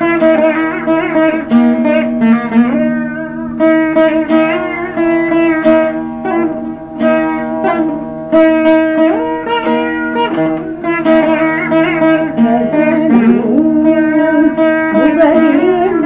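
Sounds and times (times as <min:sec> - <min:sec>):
plucked veena melody: 0:00.0 - 0:16.0.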